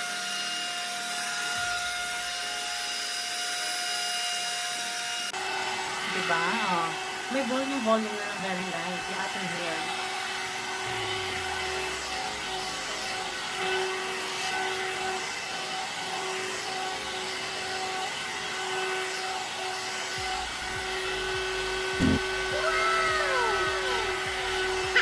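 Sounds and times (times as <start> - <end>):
hot air brush motor whine: 0.0 - 25.0.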